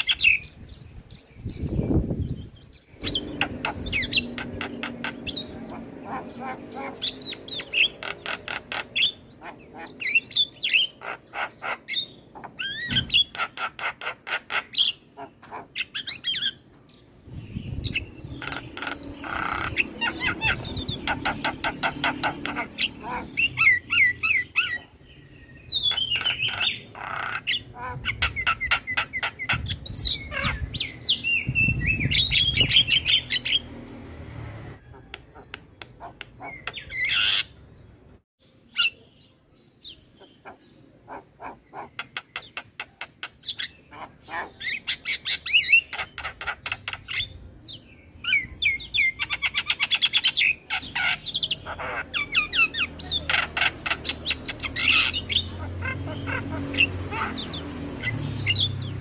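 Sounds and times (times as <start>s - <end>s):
myna bird song: 0.0s - 59.0s.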